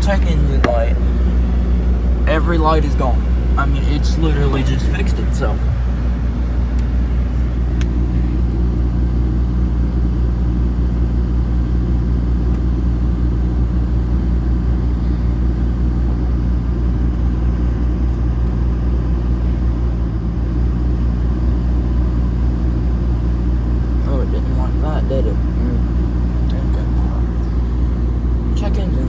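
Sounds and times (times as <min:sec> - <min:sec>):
pickup truck engine idling: 0:00.0 - 0:29.0.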